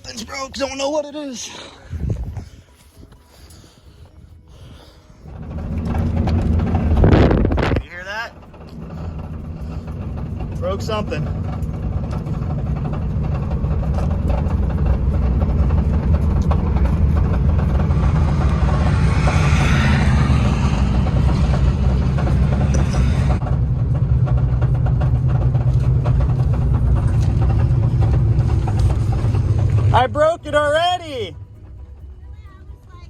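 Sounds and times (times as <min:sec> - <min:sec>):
car engine droning: 0:04.5 - 0:33.0.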